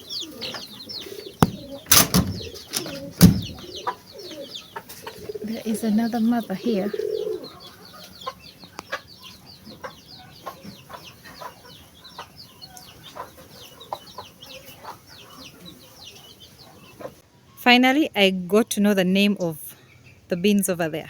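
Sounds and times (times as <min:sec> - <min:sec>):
hen clucks: 0:00.0 - 0:17.2
chicks peeping: 0:00.0 - 0:17.6, 0:19.6 - 0:20.6.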